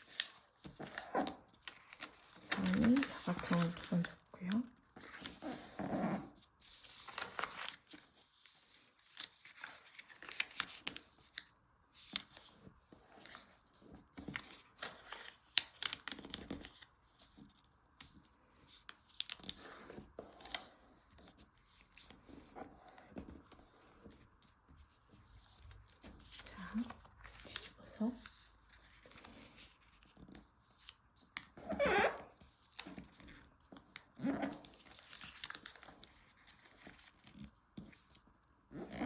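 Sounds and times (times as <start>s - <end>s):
paper folded and creased: 0.0s - 39.0s.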